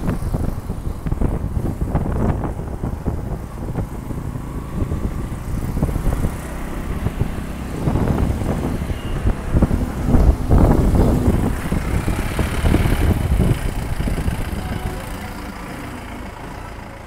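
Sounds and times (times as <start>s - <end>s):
motorcycle engine and road noise: 0.0s - 17.0s.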